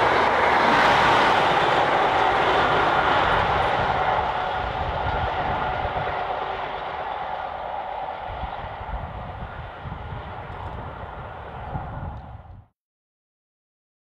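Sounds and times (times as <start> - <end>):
train wheels rumbling on rails: 0.0 - 12.7.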